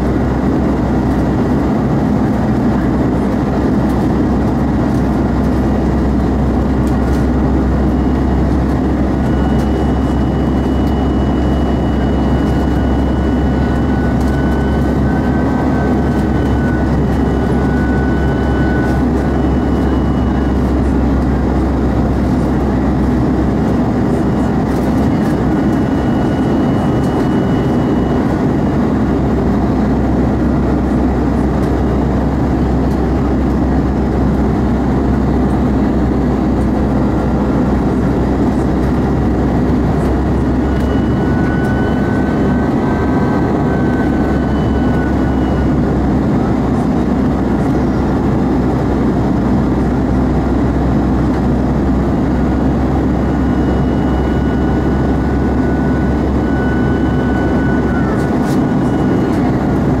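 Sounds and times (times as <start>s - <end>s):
jet engine drone: 0.0s - 60.0s.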